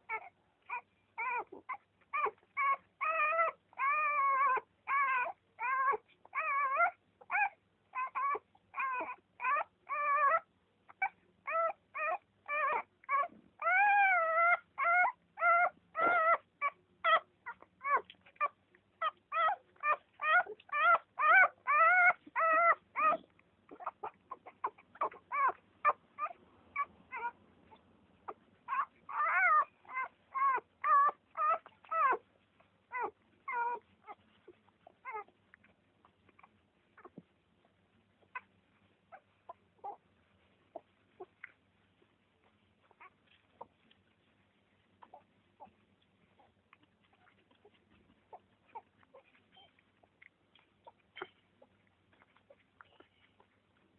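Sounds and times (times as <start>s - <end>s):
newborn puppies whimpering and squealing: 0.0s - 53.9s.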